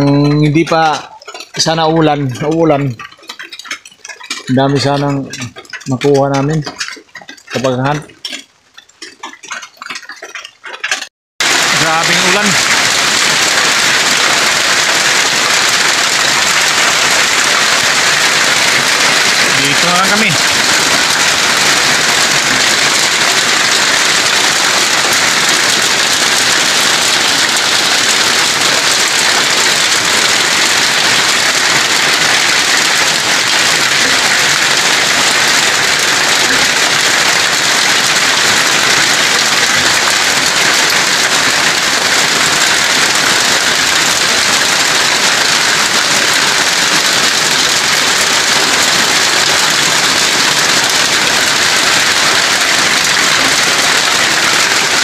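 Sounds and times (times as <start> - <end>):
heavy rain on foliage: 0.0 - 8.4, 11.4 - 55.0.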